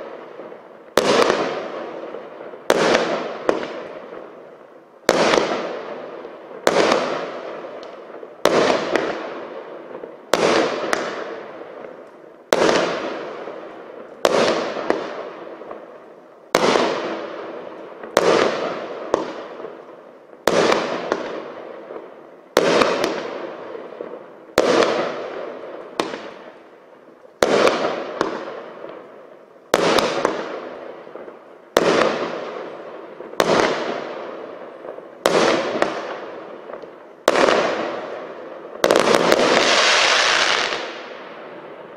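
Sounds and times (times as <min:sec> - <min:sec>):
firework bangs: 0:00.0 - 0:26.8, 0:27.4 - 0:41.9.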